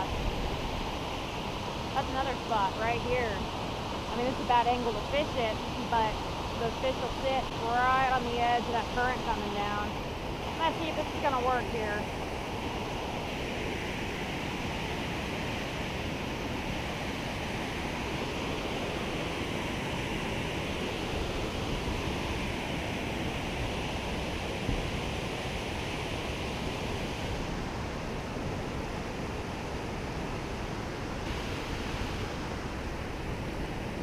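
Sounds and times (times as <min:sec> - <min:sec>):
river rushing over boulders: 0:00.0 - 0:34.0.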